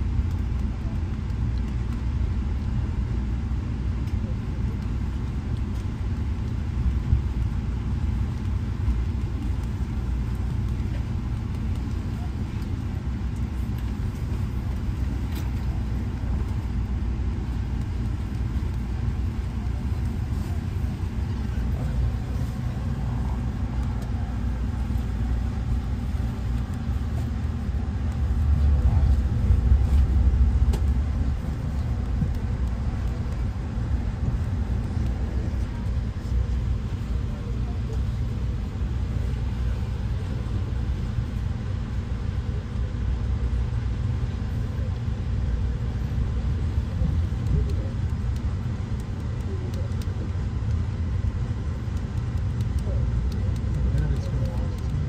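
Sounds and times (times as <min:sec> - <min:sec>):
passenger train rumbling: 0:00.0 - 0:55.0.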